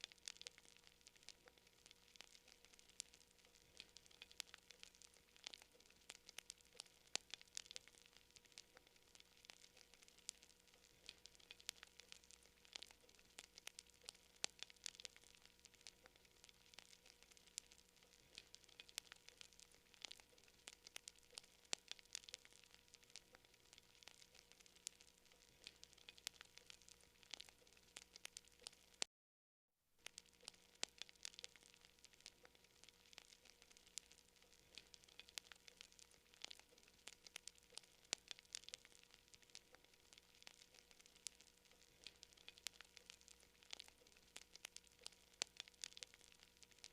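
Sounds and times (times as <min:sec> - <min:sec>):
campfire crackling and popping: 0:00.0 - 0:29.1, 0:30.0 - 0:46.9
low hiss: 0:00.0 - 0:29.1, 0:30.0 - 0:46.9.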